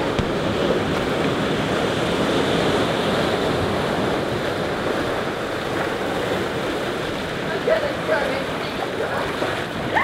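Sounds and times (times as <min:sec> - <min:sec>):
sea waves breaking on shore: 0:00.0 - 0:10.0.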